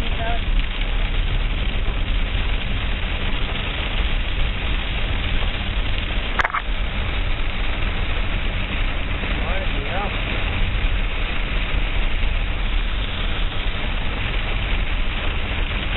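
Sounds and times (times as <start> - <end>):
low rumble: 0.0 - 15.9
storm wind and rain: 0.0 - 15.9.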